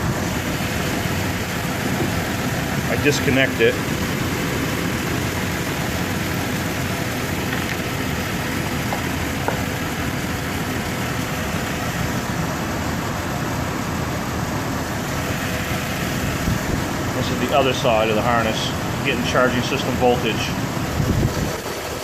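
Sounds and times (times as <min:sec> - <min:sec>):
misfiring car engine idling: 0:00.0 - 0:22.0.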